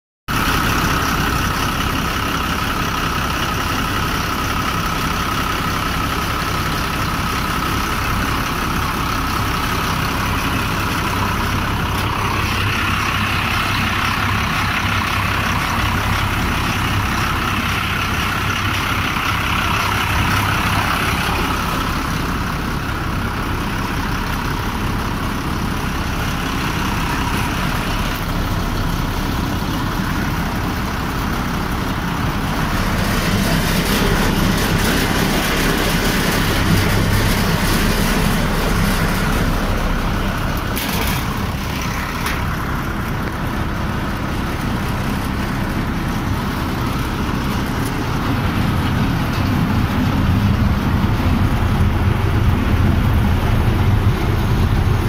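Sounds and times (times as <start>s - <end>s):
diesel engine running steadily: 0.3s - 55.0s
high engine whir: 0.3s - 55.0s.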